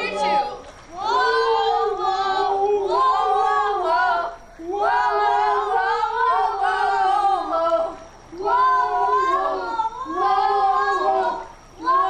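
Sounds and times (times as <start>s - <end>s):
children singing high notes: 0.0s - 12.0s.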